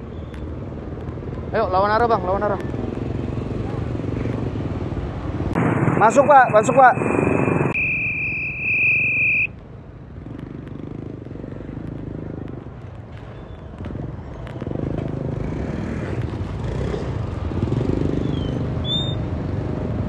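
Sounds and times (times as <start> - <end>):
motorcycle engines running: 0.0 - 6.7, 9.6 - 20.0.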